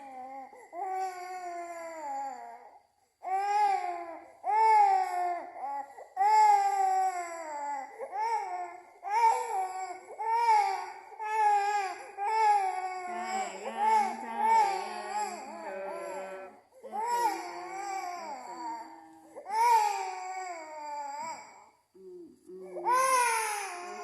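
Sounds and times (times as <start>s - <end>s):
baby crying: 3.3s - 21.6s, 22.6s - 24.0s.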